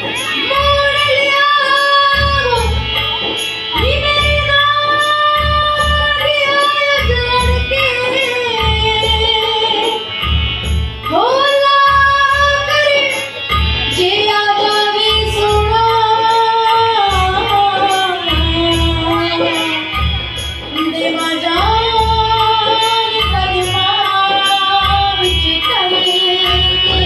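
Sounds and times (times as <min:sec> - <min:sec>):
child singing into microphone: 0:00.0 - 0:10.4, 0:11.0 - 0:27.0
backing track with drum beat: 0:00.0 - 0:27.0.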